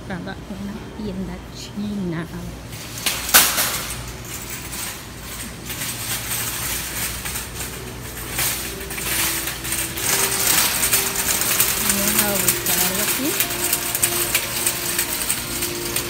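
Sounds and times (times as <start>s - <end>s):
store background hum: 0.0s - 16.0s
shopping cart rattling on tiles: 2.7s - 16.0s.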